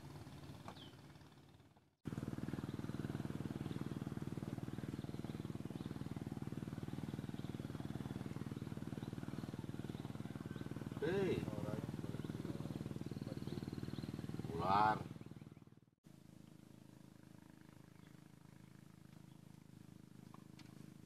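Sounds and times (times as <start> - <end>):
small engine humming: 0.0 - 21.0.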